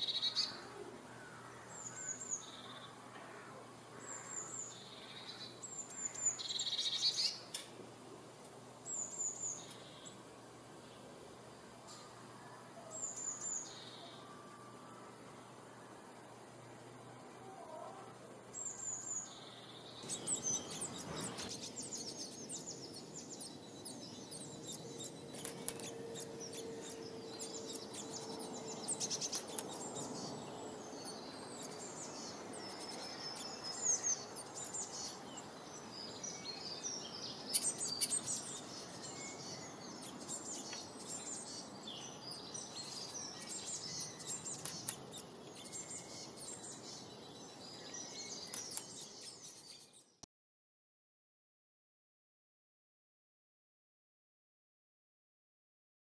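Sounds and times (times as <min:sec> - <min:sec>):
songbirds chirping and singing: 0:00.0 - 0:50.2
steady outdoor hiss: 0:00.0 - 0:50.2.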